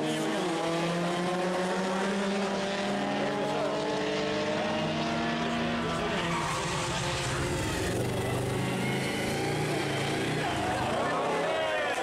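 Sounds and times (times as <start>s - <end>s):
racing car engines passing: 0.0s - 12.0s.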